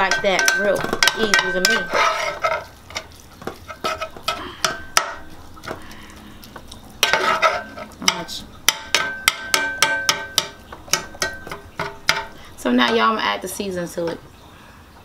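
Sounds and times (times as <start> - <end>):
metal spatula scraping skillet: 0.0 - 6.0, 7.0 - 13.2.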